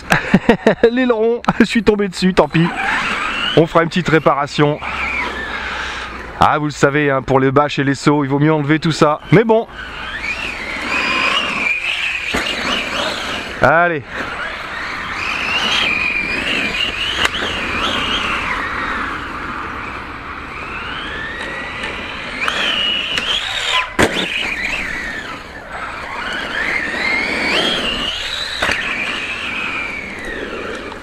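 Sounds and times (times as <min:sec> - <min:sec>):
electric motor whining: 0:01.8 - 0:06.4, 0:08.3 - 0:31.0.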